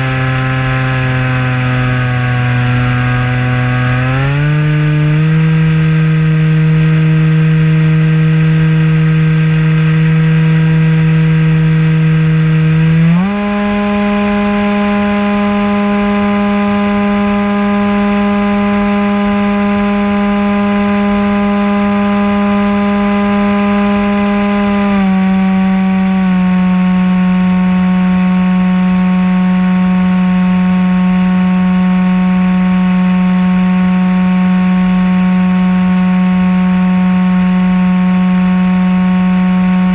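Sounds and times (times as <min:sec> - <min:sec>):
model aircraft motor humming: 0:00.0 - 0:39.9.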